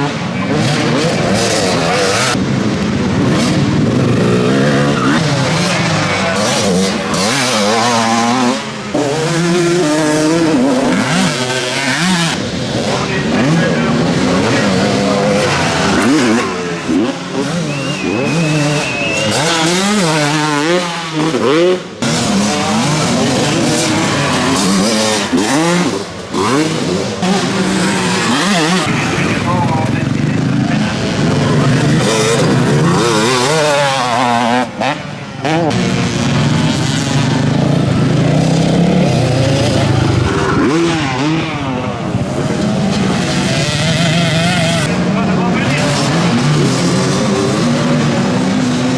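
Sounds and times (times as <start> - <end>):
motocross bikes revving: 0.0 - 48.9.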